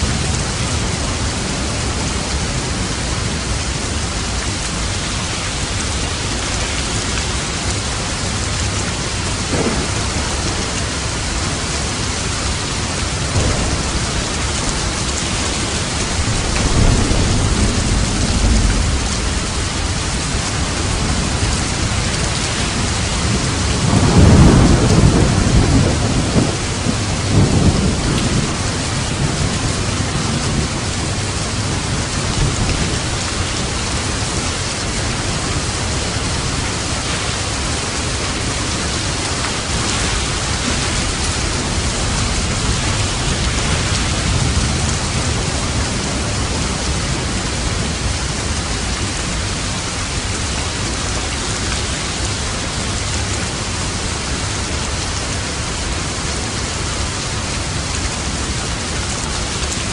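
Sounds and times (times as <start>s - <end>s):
thunder rumbling: 0.0s - 51.4s
heavy rain: 0.0s - 59.9s.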